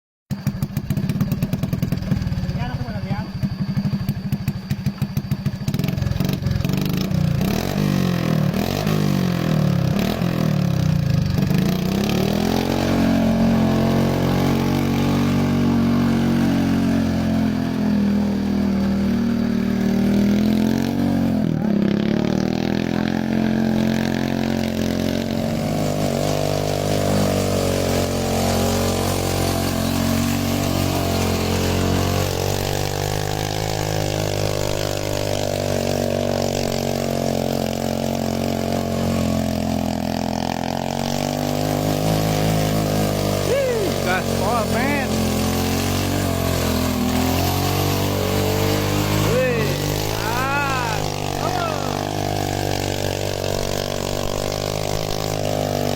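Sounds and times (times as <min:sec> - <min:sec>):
motorcycle engine revving: 0:00.3 - 0:55.9.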